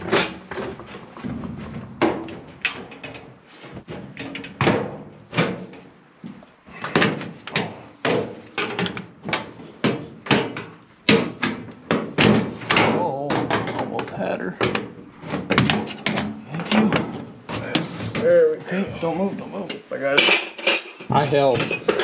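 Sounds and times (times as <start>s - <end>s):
sheet metal knocks and clatters: 0.0s - 5.9s, 6.7s - 18.5s, 20.1s - 22.0s.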